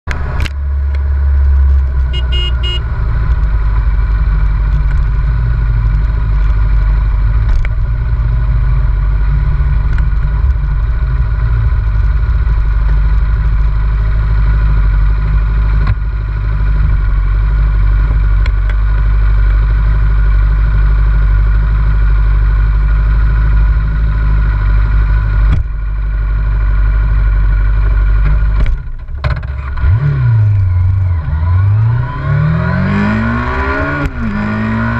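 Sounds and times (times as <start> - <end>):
road noise: 0.0 - 34.9
motorcycle engine: 0.1 - 34.9.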